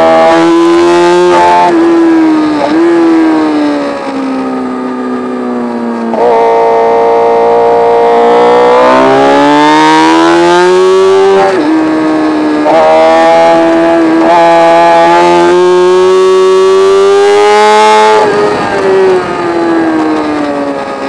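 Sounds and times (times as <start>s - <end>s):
racing motorcycle engine: 0.0s - 21.0s.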